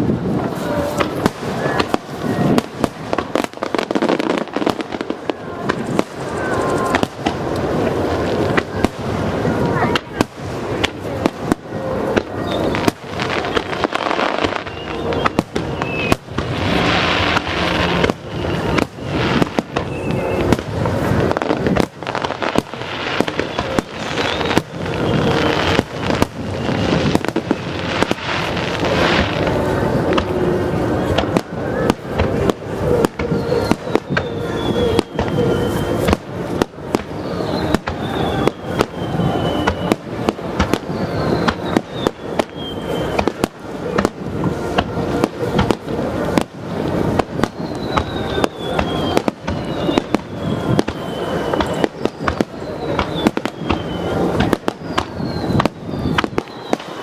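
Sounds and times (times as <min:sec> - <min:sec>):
fireworks booming and crackling: 0:00.0 - 0:57.0
falling firework whistles: 0:00.6 - 0:30.3, 0:31.0 - 0:57.0.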